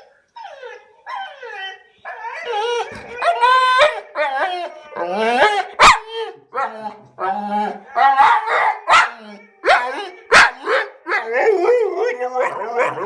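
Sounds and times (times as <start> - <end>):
dog whining calls: 0.0 - 13.0.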